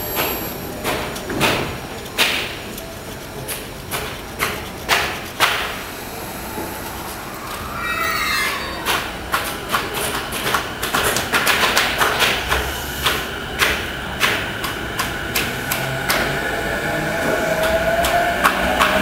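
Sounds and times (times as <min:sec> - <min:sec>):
train wheels clacking: 0:00.0 - 0:07.8, 0:08.4 - 0:19.0
train running noise: 0:00.0 - 0:19.0.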